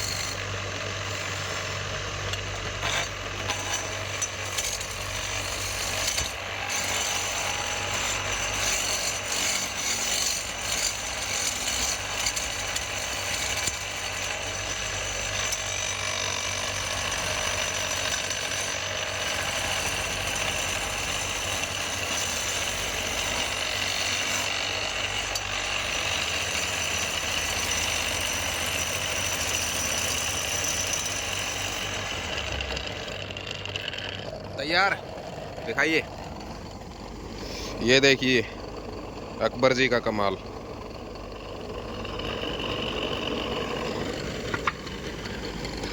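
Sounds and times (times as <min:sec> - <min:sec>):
power tool cutting wood: 0:00.0 - 0:45.9.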